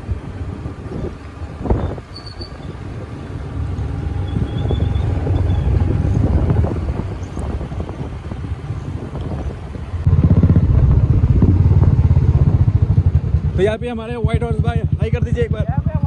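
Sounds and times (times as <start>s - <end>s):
motorcycle engines running: 0.0s - 16.0s
wind rushing over microphone: 0.0s - 16.0s.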